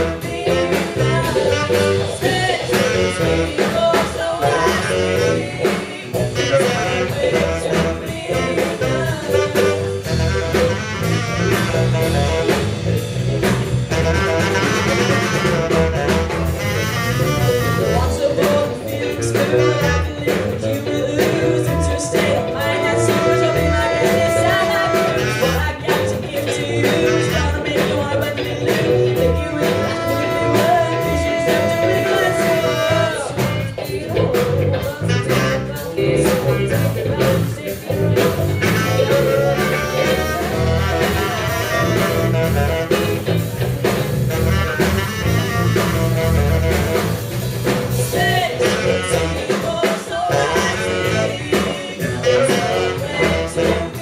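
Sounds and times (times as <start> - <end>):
tenor saxophone playing: 0.0 - 33.7, 34.8 - 36.4, 38.2 - 54.0
rock band backing: 0.0 - 54.0.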